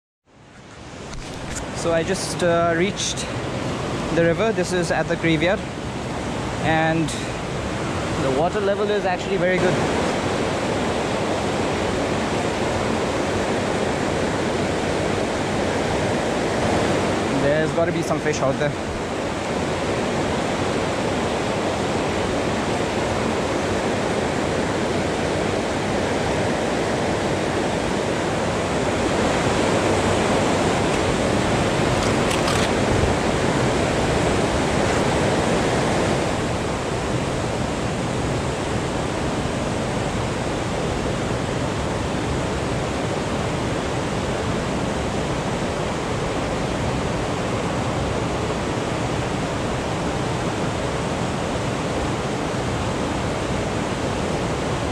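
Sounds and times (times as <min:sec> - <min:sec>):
river rapids rushing over boulders: 0:00.8 - 0:54.9.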